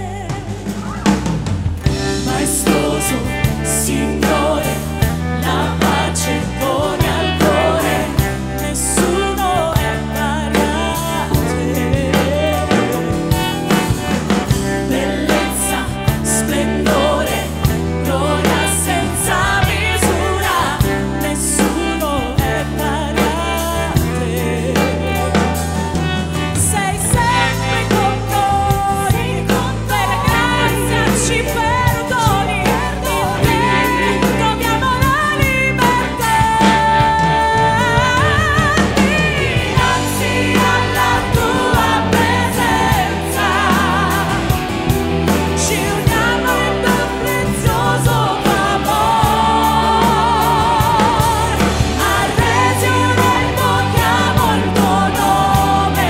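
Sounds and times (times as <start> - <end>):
women singing: 0.0 - 1.2, 1.8 - 56.0
bass: 0.0 - 56.0
drum kit: 0.0 - 56.0
choir singing: 1.8 - 56.0.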